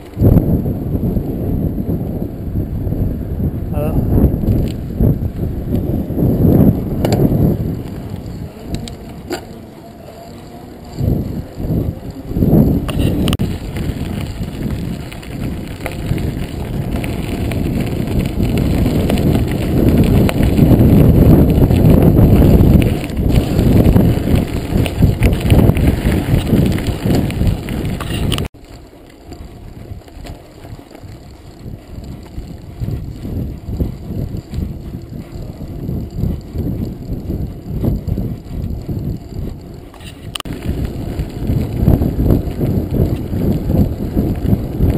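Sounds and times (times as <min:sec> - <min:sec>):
bike rattling: 0:00.0 - 0:44.9
bike tyres rumbling: 0:00.0 - 0:44.9
wind on the microphone: 0:00.0 - 0:44.9
tyres crunching over gravel: 0:07.0 - 0:44.9.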